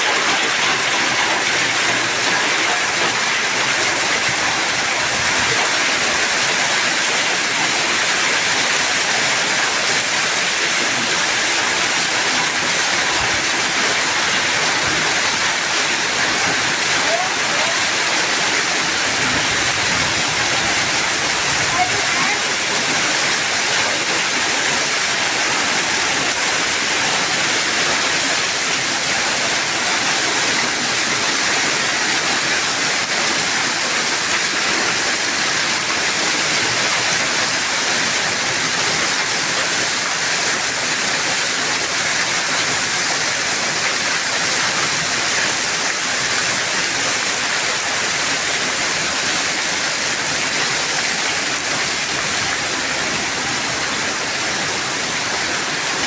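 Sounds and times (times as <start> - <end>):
hail and heavy rain: 0.0 - 56.0.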